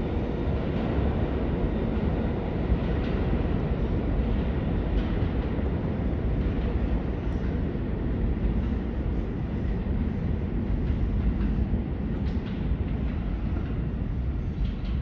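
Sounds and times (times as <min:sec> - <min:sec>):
subway train rumbling in tunnel: 0:00.0 - 0:15.0.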